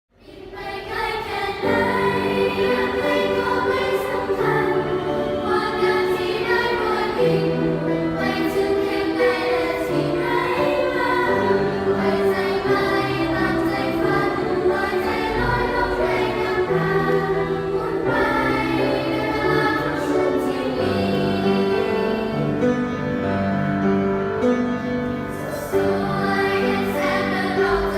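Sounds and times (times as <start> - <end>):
choir singing in harmony: 0.2 - 27.9.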